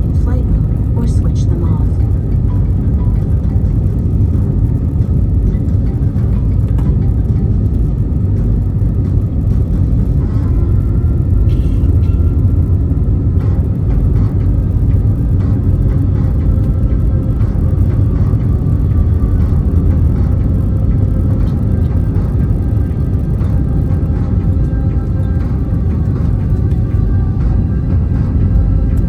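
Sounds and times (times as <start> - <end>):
deep rumble of jet engines: 0.0 - 29.0
faint steady whine: 0.0 - 29.0.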